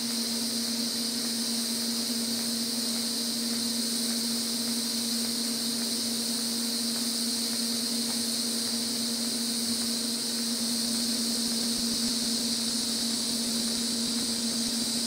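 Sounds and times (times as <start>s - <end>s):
welding arc hiss and hum: 0.0s - 15.0s.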